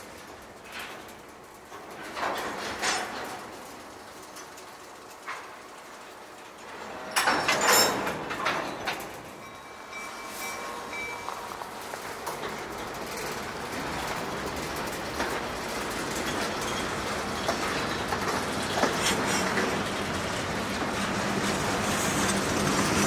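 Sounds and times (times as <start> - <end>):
steel wheels rumbling on rails: 0.0 - 23.0.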